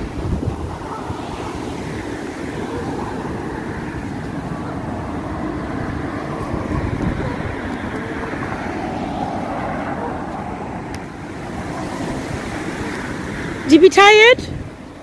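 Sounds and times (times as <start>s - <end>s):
road traffic noise: 0.0s - 15.0s
wind buffeting microphone: 0.0s - 15.0s.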